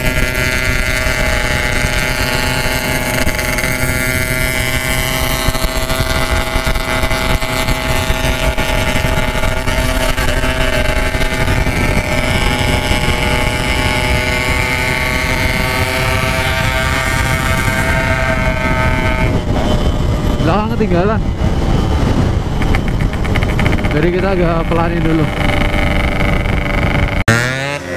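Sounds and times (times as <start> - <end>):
wind buffeting microphone: 0.0 - 27.5
two-stroke motorcycle cruising: 0.0 - 27.9.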